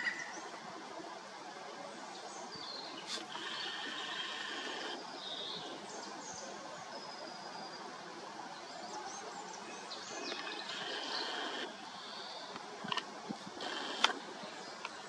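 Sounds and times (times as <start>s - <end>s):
wild birds singing: 0.0s - 0.7s, 1.9s - 15.0s
outdoor noise hiss: 0.0s - 15.0s.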